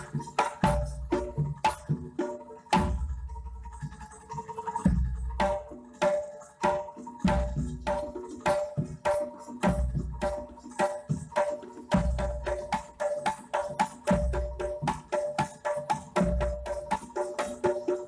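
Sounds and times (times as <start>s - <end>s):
hand drum: 0.0s - 18.0s.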